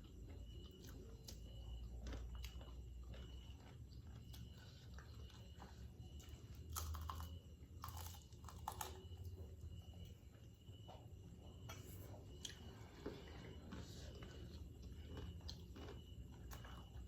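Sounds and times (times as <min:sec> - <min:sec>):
crunchy chewing of fried chicken: 0:00.0 - 0:17.0.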